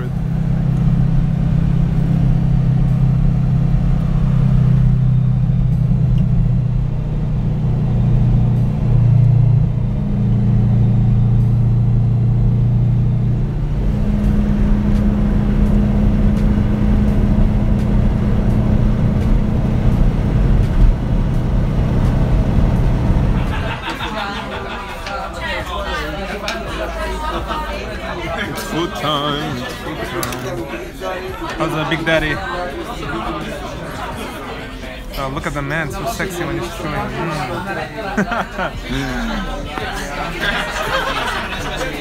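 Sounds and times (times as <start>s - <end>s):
car engine drone: 0.0s - 42.0s.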